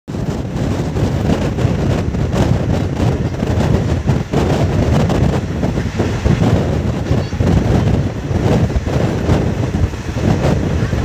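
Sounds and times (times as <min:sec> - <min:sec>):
train wheels rumbling on rails: 0:00.1 - 0:11.0
wind buffeting microphone: 0:00.1 - 0:11.0.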